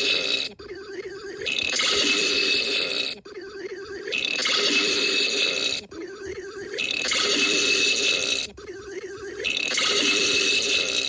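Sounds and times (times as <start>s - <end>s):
loud harsh burping: 0.0s - 11.0s.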